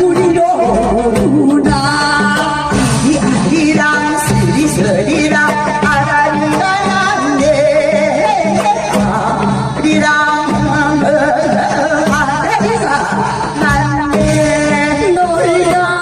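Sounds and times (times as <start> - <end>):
person singing with vibrato: 0.0 - 16.0.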